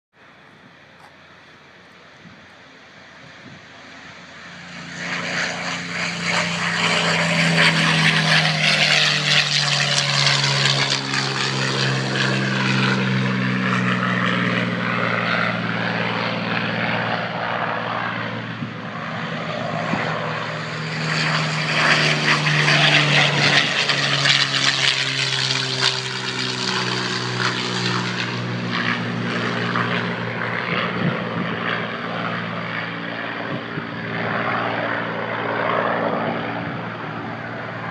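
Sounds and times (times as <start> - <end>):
propeller aircraft engines droning: 0.1 - 37.9.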